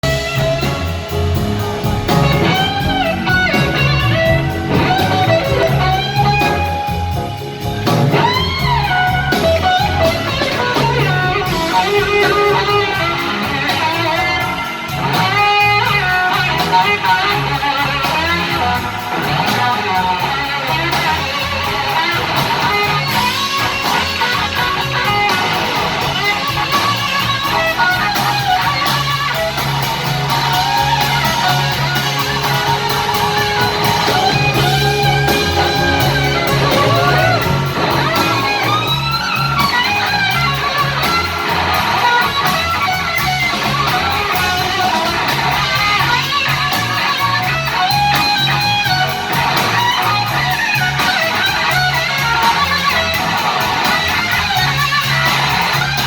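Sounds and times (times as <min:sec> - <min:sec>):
blues band playing: 0:00.0 - 0:56.0
electric guitar bending notes: 0:00.0 - 0:56.0.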